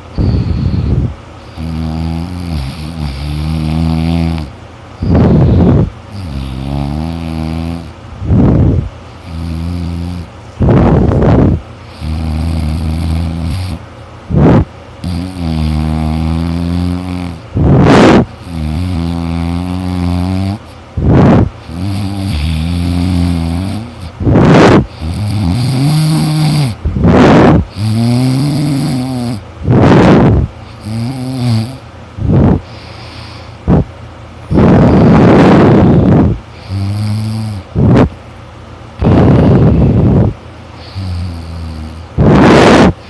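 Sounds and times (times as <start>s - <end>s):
person snoring loudly: 0.7s - 33.9s, 34.5s - 38.1s, 39.0s - 43.0s.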